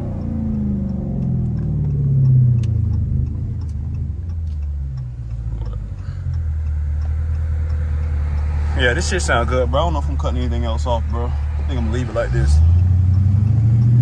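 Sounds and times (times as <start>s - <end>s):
car engine rumbling: 0.0s - 14.0s
turn signal ticking: 0.0s - 14.0s.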